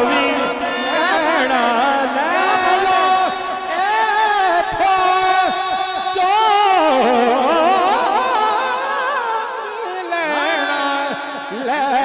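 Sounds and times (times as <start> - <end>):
person singing through a pa system: 0.0 - 12.0.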